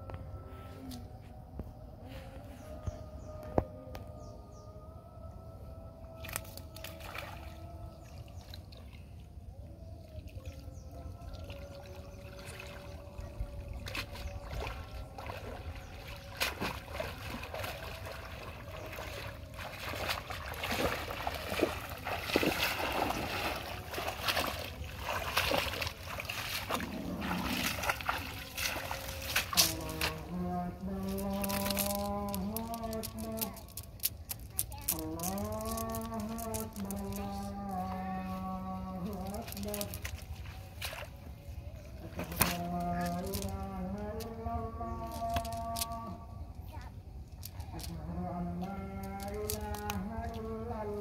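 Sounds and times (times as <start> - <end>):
water sloshing and trickling: 0.0 - 51.0
water splashes: 6.1 - 46.4, 47.2 - 51.0.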